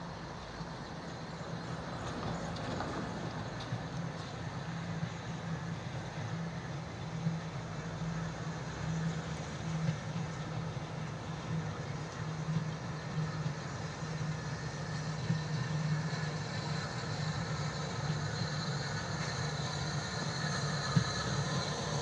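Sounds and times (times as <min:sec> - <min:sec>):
steam locomotive exhaust beating: 0:00.0 - 0:22.0.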